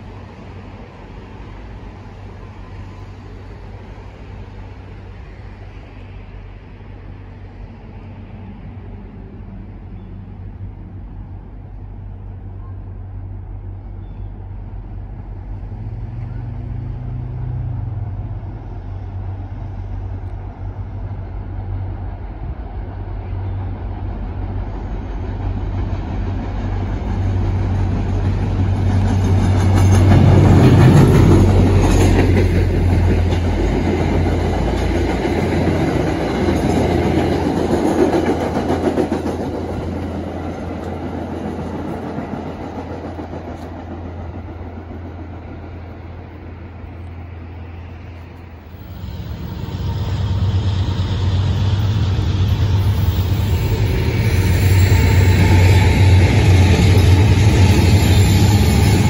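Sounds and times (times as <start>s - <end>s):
diesel locomotive engine hum: 0.0s - 59.0s
train wheels on rails: 0.0s - 59.0s.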